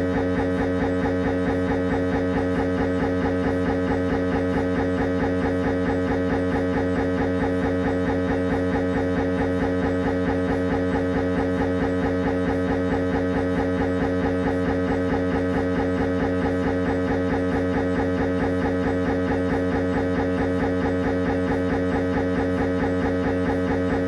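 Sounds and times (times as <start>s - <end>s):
mri scanner buzzing pulse: 0.0s - 24.0s.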